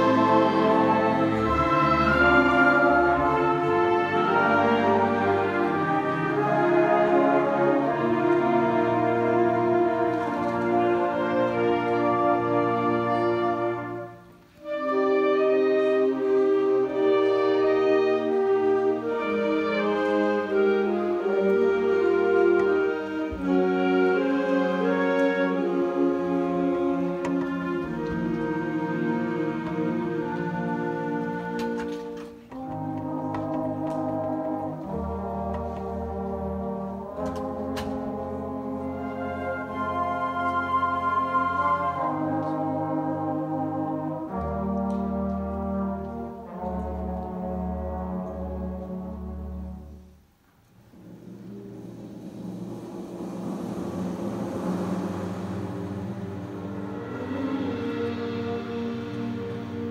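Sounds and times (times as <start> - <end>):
concert band brass chords: 0.0 - 50.1, 50.8 - 59.9.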